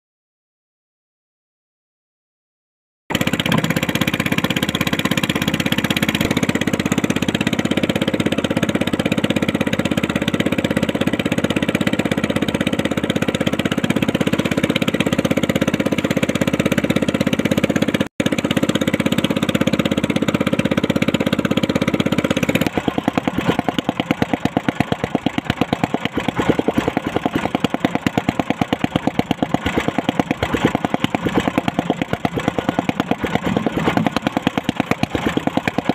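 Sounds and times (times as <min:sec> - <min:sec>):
boat motor running: 0:03.1 - 0:35.9.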